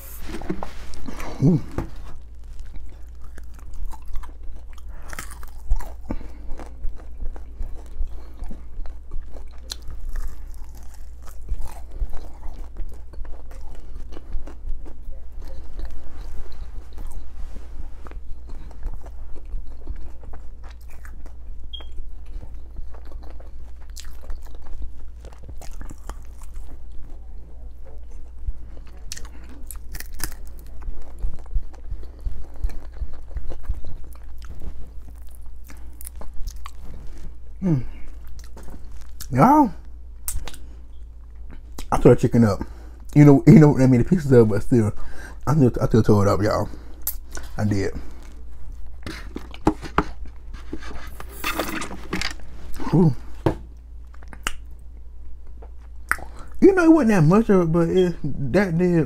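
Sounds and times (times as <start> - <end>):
person chewing chicken wings: 0.0 - 39.4, 40.2 - 44.3, 46.0 - 54.7.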